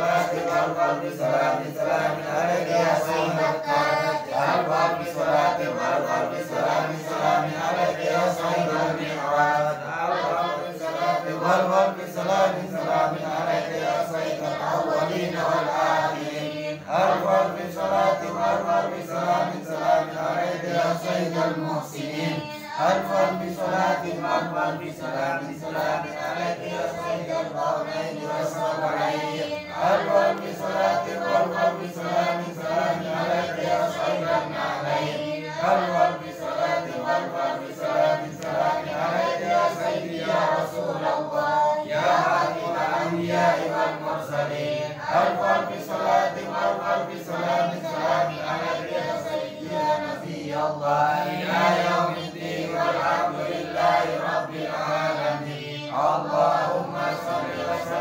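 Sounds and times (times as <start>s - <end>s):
men chanting together: 0.0s - 58.0s.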